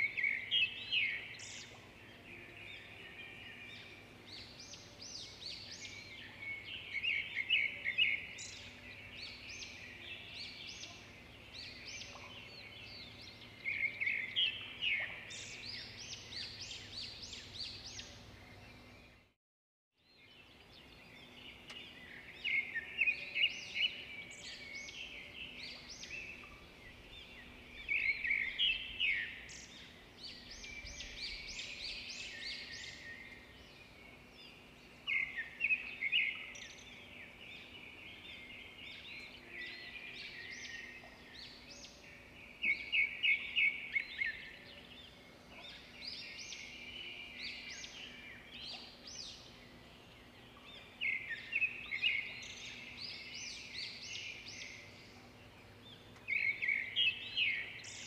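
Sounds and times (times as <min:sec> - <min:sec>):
birds chirping and singing: 0:00.0 - 0:19.3, 0:20.1 - 0:58.0.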